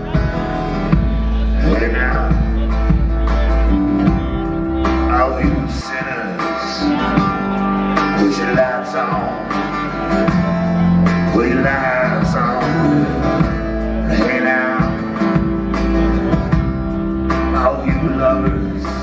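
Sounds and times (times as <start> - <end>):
drums: 0.0 - 19.0
keyboard: 0.0 - 19.0
man singing: 0.0 - 19.0
strummed acoustic guitar: 0.0 - 19.0.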